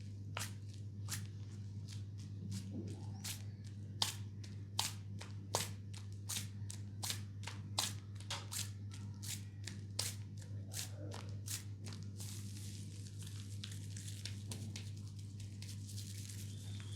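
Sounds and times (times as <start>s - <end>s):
low electrical hum: 0.0s - 16.9s
hands patting bare skin: 0.3s - 16.9s.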